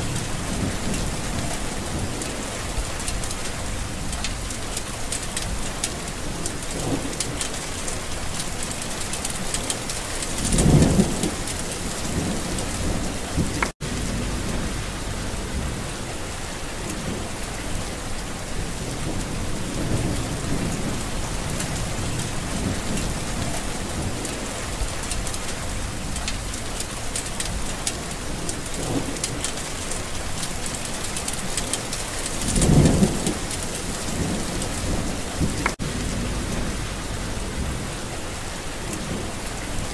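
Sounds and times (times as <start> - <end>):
heavy rain: 0.0 - 39.9
low rumbles of thunder: 0.0 - 39.9.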